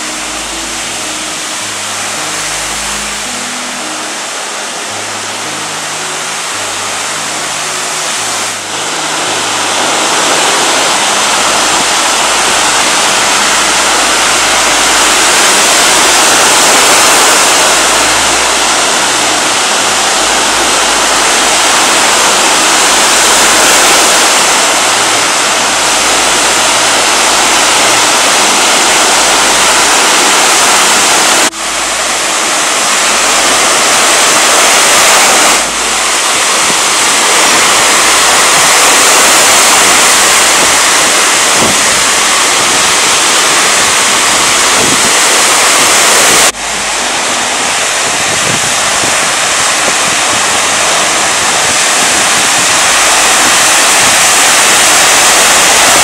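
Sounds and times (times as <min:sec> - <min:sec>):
waves breaking on rocky shore: 0:04.8 - 0:56.0.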